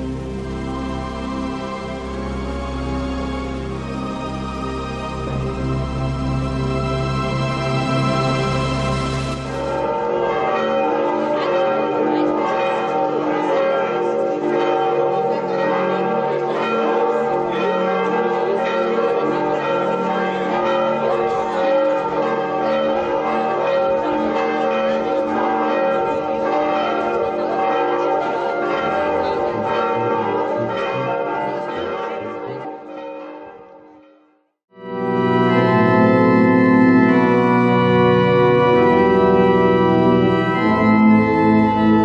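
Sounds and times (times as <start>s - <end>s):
church bells pealing: 0.0s - 42.0s.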